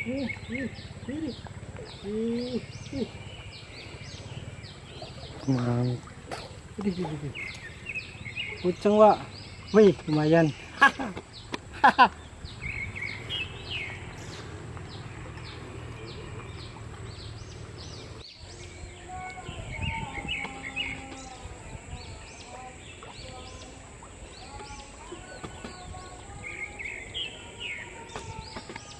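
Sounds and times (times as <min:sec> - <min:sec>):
birds chirping: 0:00.0 - 0:28.9
flowing stream: 0:00.0 - 0:28.9.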